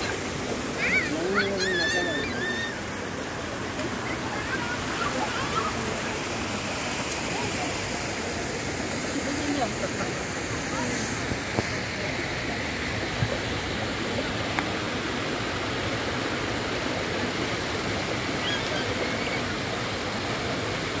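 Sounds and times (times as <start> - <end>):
fountain splashing into pool: 0.0 - 21.0.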